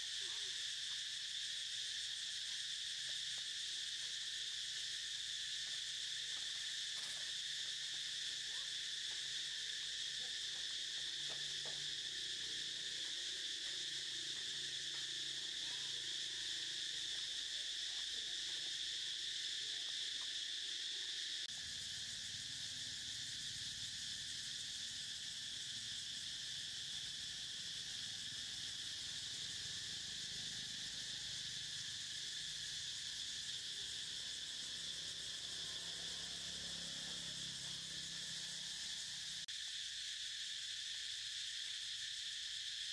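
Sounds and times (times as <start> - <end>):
insect chorus drone: 0.0 - 42.9.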